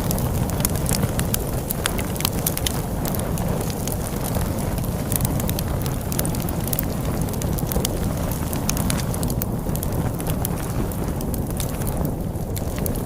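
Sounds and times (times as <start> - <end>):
log fire crackling and popping: 0.0 - 13.0
low rumble of storm wind: 0.0 - 13.0.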